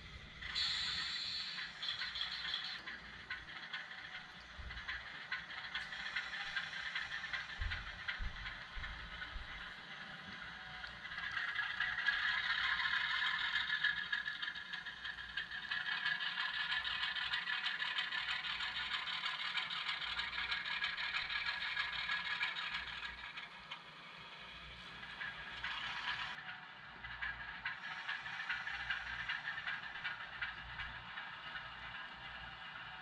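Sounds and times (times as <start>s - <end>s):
model train diesel engine sound: 0.0s - 33.0s
model wheels clattering on track: 0.0s - 33.0s.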